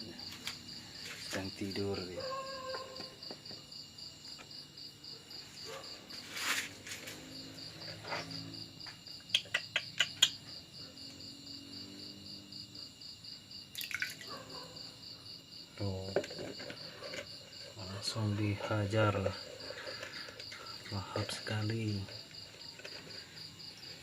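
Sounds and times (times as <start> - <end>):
insect chirping trill: 0.0 - 24.0.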